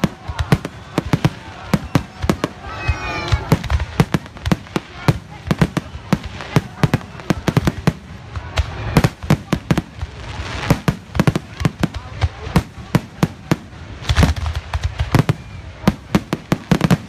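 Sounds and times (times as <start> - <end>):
fireworks crackle: 0.0 - 17.0.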